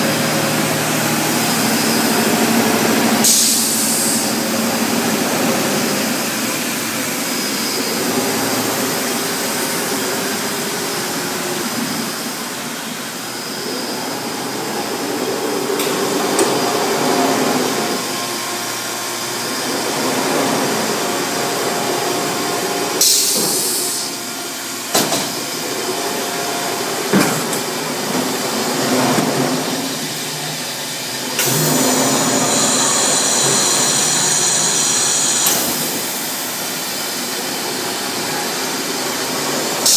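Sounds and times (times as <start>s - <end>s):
industrial laundry machinery din: 0.0s - 39.9s.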